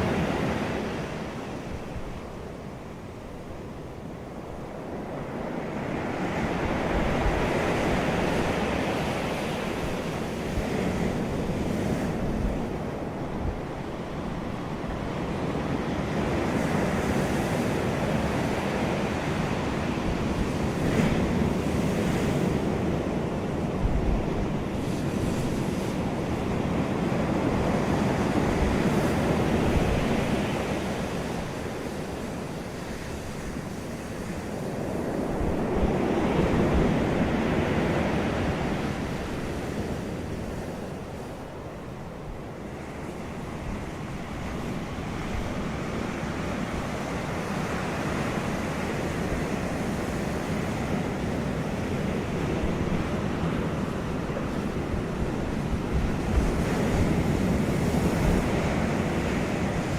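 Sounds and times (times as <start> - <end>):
wind buffeting microphone: 0.0 - 59.9
wind gusts: 0.0 - 59.9.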